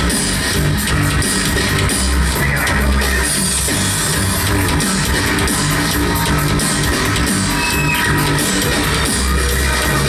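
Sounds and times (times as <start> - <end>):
drum kit beat: 0.0 - 10.0
heavy bass line: 0.0 - 10.0
instrumental rock band playing: 0.0 - 10.0.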